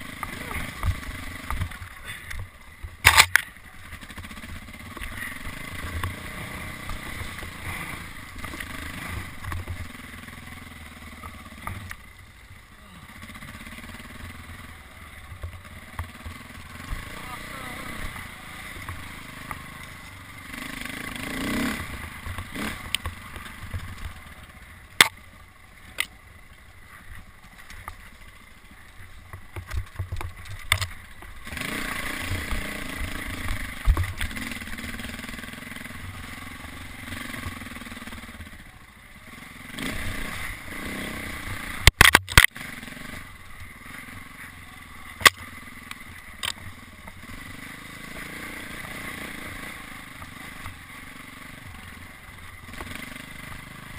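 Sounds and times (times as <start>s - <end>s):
dirt bike engine revving: 0.0s - 26.2s, 29.8s - 53.9s.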